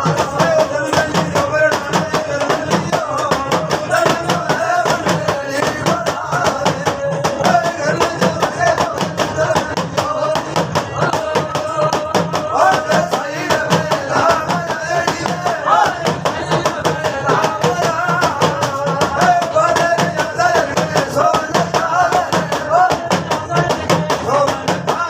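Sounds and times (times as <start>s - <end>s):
sharp percussion beat: 0.0s - 25.0s.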